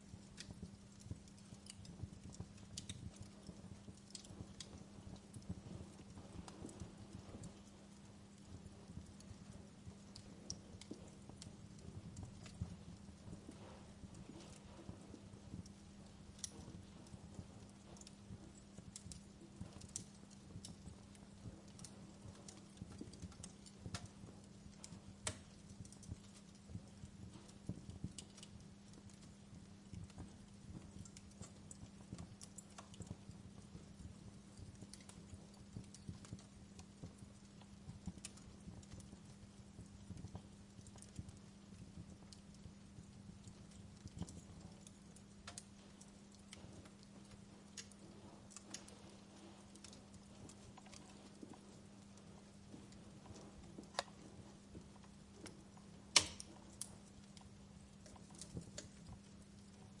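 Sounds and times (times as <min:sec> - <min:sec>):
faint steady hum: 0:00.0 - 1:00.0
wood fire crackling: 0:00.0 - 1:00.0.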